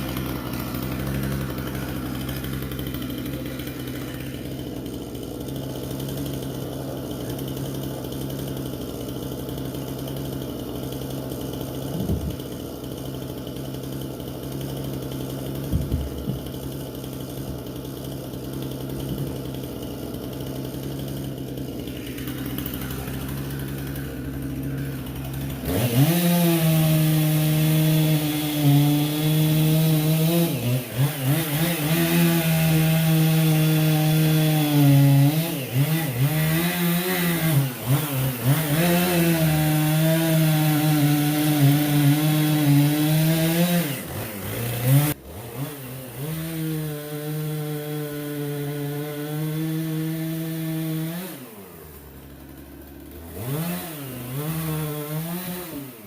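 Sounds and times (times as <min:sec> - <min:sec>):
chainsaw cutting firewood: 0:00.0 - 0:56.0.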